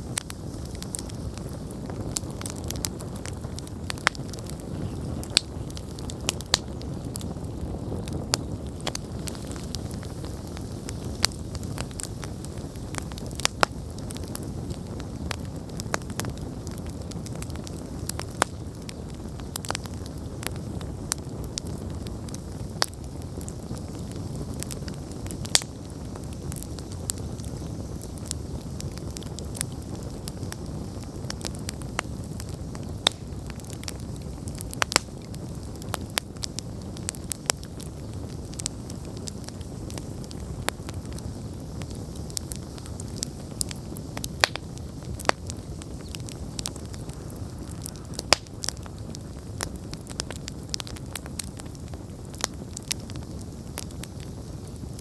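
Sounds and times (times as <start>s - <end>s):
burning wood crackling and popping: 0.0s - 55.0s
campfire flame rushing: 0.0s - 55.0s.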